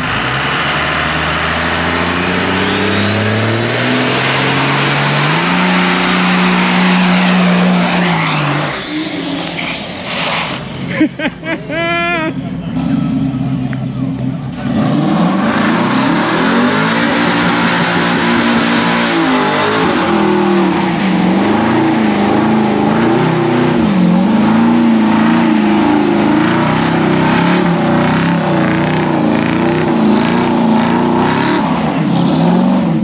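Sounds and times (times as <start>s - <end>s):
vehicle engine revving: 0.0s - 11.5s, 12.3s - 33.0s.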